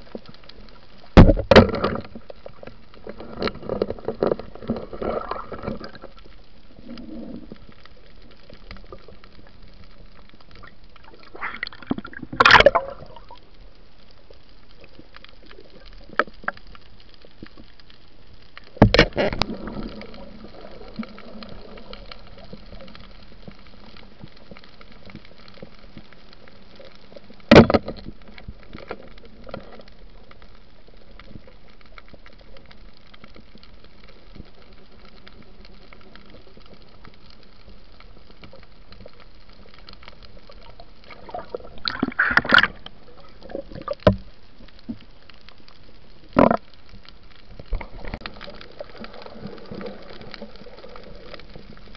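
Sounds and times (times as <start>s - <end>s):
underwater hiss and gurgling: 0.0s - 51.9s.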